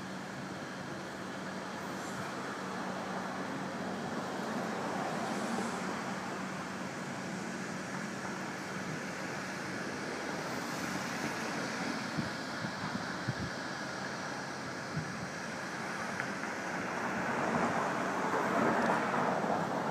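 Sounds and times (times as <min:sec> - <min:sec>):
low engine hum: 0:00.0 - 0:19.9
passing vehicles: 0:00.0 - 0:19.9.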